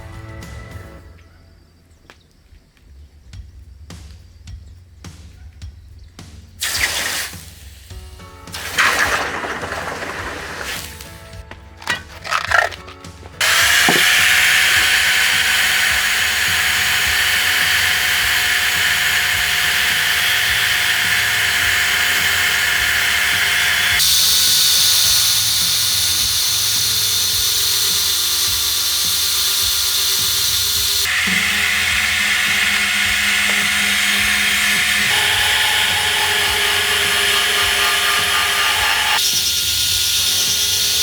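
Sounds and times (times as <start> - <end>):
power tool grinding steel: 8.0 - 41.0.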